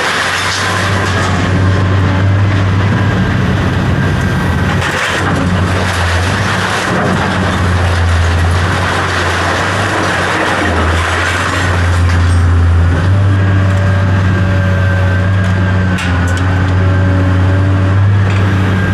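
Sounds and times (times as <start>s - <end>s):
motor vehicle running: 0.0s - 18.9s.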